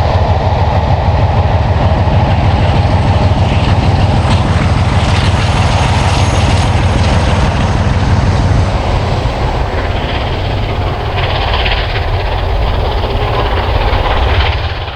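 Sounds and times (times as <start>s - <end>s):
diesel locomotive engine drone: 0.0s - 14.9s
train wheels rumbling on rails: 0.0s - 14.9s.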